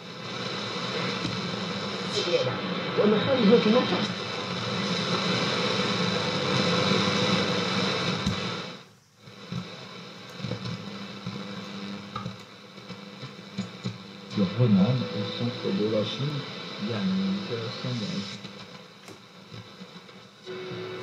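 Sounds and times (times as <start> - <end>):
static clicks: 0.0 - 2.4, 3.0 - 21.0
radio static: 0.0 - 21.0
steady hum: 0.0 - 21.0.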